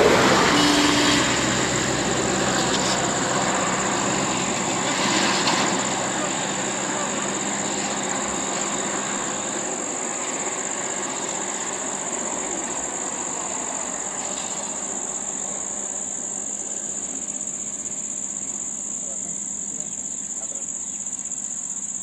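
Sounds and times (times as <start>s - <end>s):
vehicle driving away: 0.0s - 21.9s
high-pitched insect drone: 0.0s - 22.0s.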